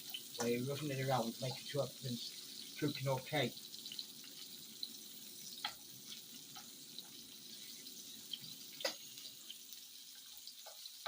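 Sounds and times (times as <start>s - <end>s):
fat crackling and popping: 0.0s - 11.0s
mushrooms sizzling in a pan: 0.0s - 11.0s.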